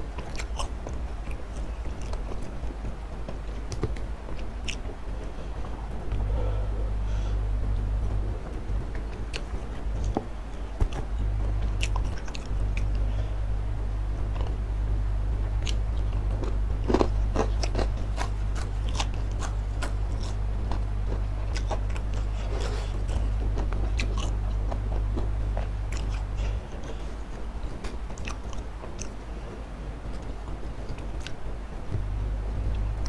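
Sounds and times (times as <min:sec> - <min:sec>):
crunchy chewing: 0:00.0 - 0:13.3, 0:15.5 - 0:29.2, 0:30.1 - 0:33.0
steady low hum: 0:00.0 - 0:33.0.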